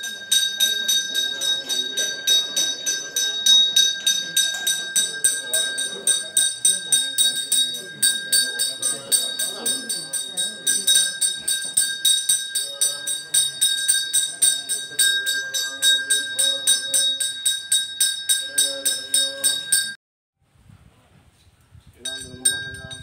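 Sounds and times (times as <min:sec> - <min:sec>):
bell rung rapidly: 0:00.0 - 0:20.0, 0:22.1 - 0:23.0.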